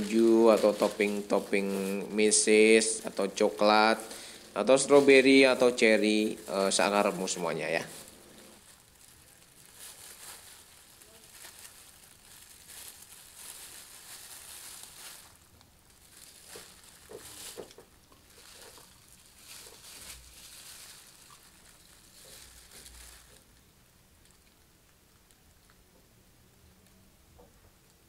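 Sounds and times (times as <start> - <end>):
plastic gloves crinkling: 0.0 - 25.8.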